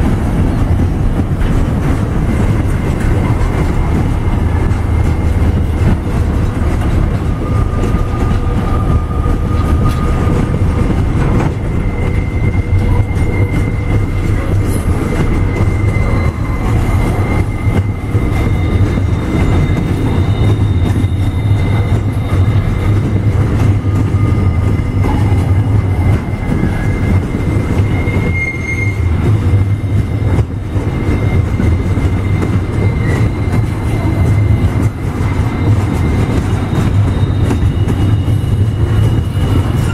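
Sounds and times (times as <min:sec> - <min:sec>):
freight train wheels rumbling: 0:00.0 - 0:39.9
high wheel squeals: 0:02.5 - 0:39.9.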